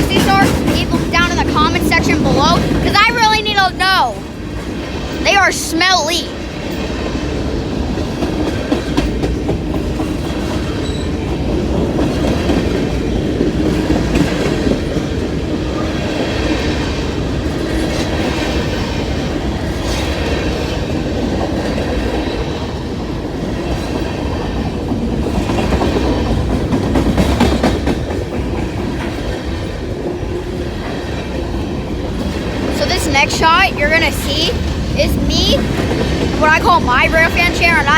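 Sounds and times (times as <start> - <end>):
wheels clacking over rail joints: 0.0 - 5.3, 6.6 - 33.8
wheels rumbling on rail: 0.0 - 37.9.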